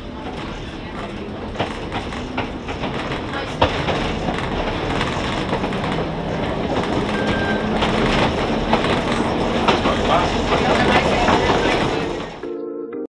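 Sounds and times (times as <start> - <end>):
streetcar wheels rumbling on rail: 0.0 - 12.4
wheels clacking over rail joints: 0.0 - 12.4.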